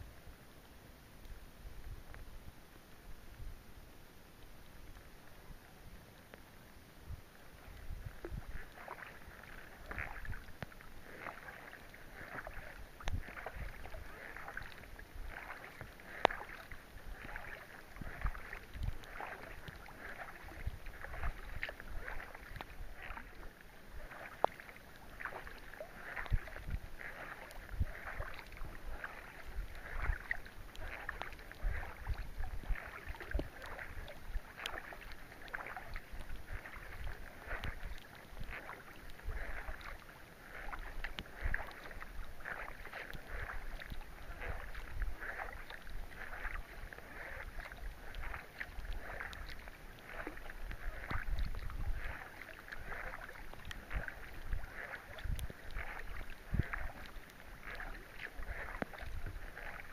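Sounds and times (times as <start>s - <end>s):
rain falling on a lake: 0.0s - 59.9s
wind rumbling on microphone: 1.2s - 4.0s, 4.7s - 59.9s
paddle strokes splashing: 4.4s - 59.9s.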